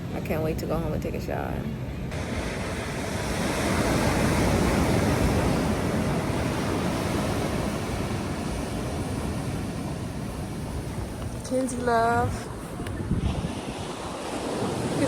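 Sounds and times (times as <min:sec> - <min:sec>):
ocean surf washing onto beach: 0:02.1 - 0:15.0.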